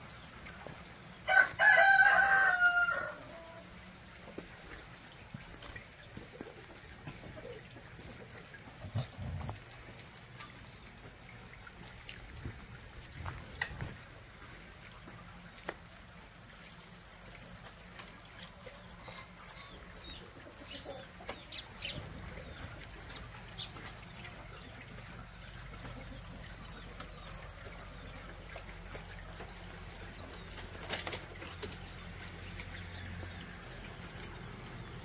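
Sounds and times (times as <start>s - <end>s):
rainwater trickling and dripping: 0.0s - 35.0s.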